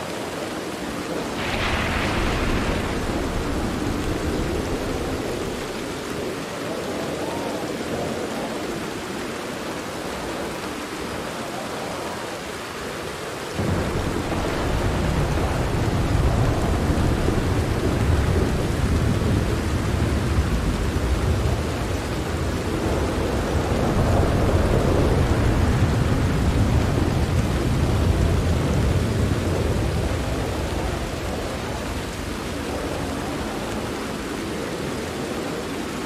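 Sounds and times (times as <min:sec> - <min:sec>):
rain falling on a tent: 0:00.0 - 0:36.0
deep thunder rumble: 0:00.8 - 0:08.2, 0:13.6 - 0:36.0.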